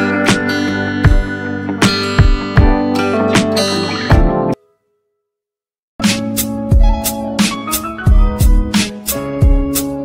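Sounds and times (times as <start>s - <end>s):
acoustic guitar music with beat: 0.0s - 4.7s, 6.0s - 10.0s.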